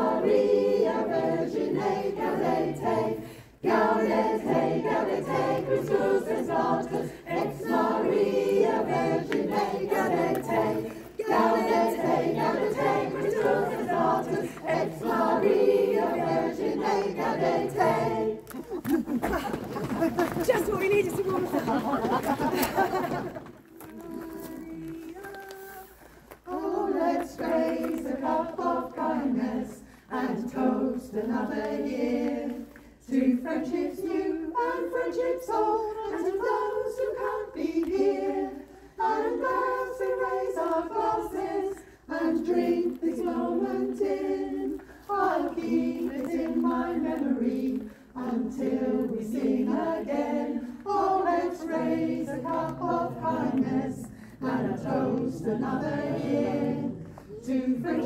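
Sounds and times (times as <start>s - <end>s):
choir singing unaccompanied: 0.0s - 25.9s, 26.5s - 58.0s.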